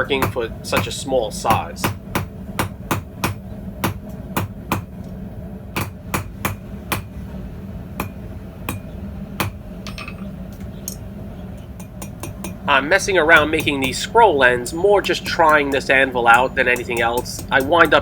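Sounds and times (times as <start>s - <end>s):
hammer striking hot steel on anvil: 0.0s - 4.9s, 5.8s - 7.2s, 8.0s - 11.0s, 11.7s - 18.0s
steady low hum: 0.0s - 18.0s.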